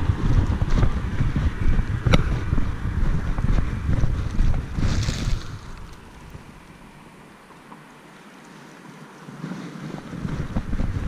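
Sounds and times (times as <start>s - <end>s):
wind buffeting microphone: 0.0s - 7.6s, 9.3s - 11.0s.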